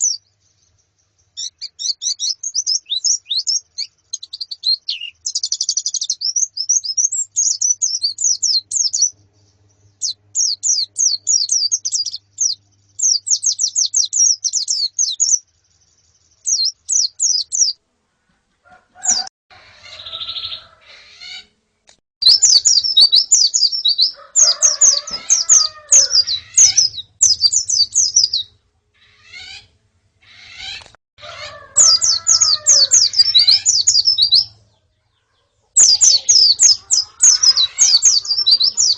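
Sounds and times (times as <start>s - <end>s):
lower fuller bird calls: 0.0s - 15.5s, 16.4s - 21.6s, 22.2s - 38.9s
birds chirping rapidly: 0.0s - 21.6s, 22.2s - 38.9s.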